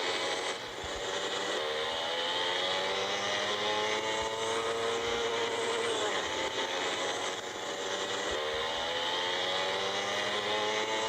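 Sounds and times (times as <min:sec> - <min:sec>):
motorcycle engine under throttle: 0:00.0 - 0:11.0.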